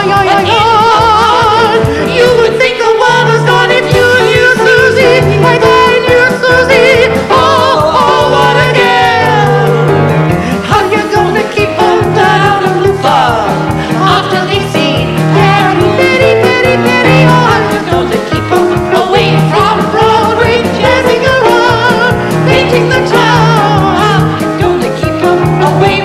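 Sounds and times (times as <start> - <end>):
instrumental accompaniment: 0.0 - 26.0
person singing with vibrato: 0.0 - 26.0.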